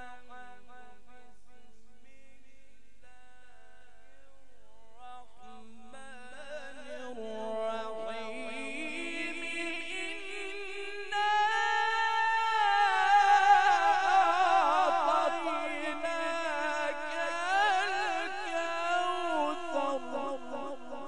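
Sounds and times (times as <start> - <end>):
man reciting melodically: 0.0 - 21.0.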